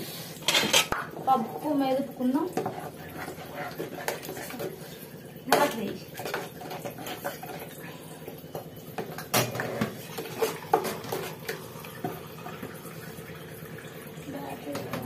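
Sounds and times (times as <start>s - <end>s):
mashing and stirring in pot: 0.0s - 13.2s.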